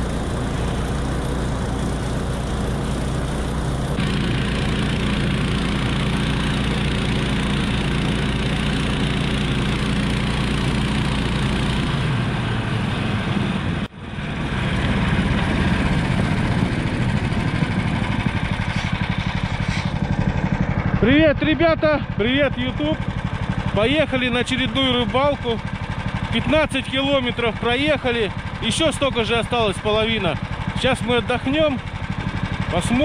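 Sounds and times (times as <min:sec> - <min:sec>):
small vehicle engine running: 0:00.0 - 0:33.0.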